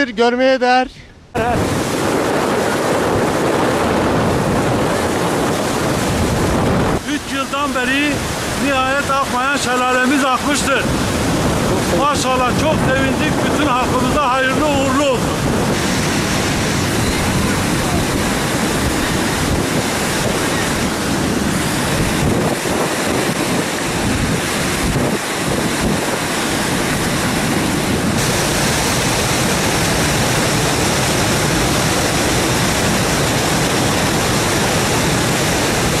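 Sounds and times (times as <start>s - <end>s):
wind on microphone: 1.2s - 36.0s
waterfall rushing over rocks: 1.4s - 36.0s.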